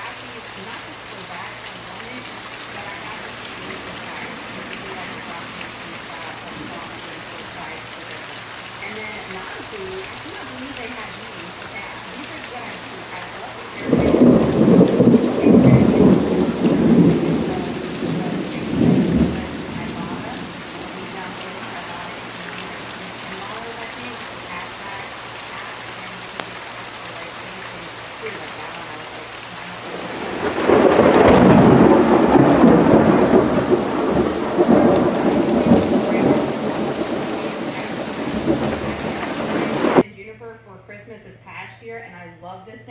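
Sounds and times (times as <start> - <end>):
thunder rumbling: 0.0 - 40.0
steady rain: 0.0 - 40.1.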